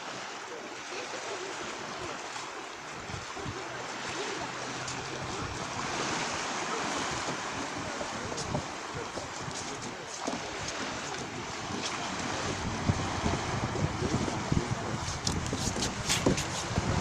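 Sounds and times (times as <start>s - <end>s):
small waves washing onto shore: 0.0s - 17.0s.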